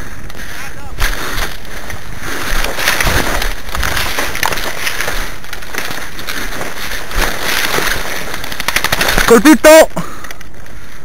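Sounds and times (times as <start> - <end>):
twigs and leaves crackling: 0.0 - 11.0
footsteps through bushes: 0.4 - 9.8.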